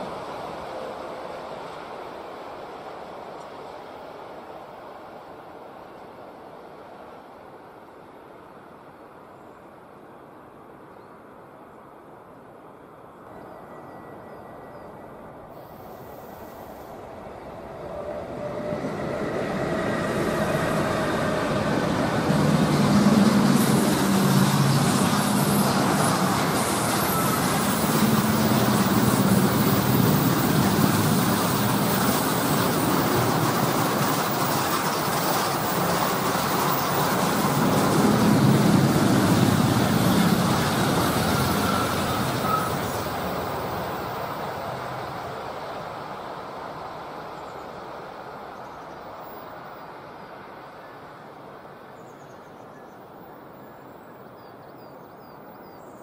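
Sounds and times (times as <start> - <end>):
freight train rolling rumble: 0.0 - 9.2, 12.6 - 51.9.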